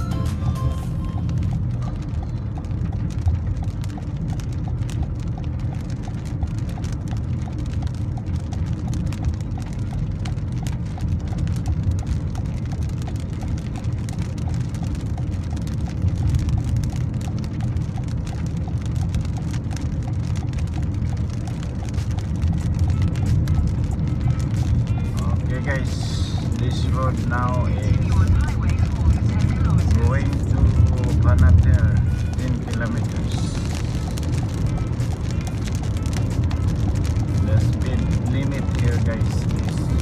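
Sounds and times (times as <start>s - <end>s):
rain on car windshield: 0.0s - 40.0s
road and engine rumble: 0.0s - 40.0s.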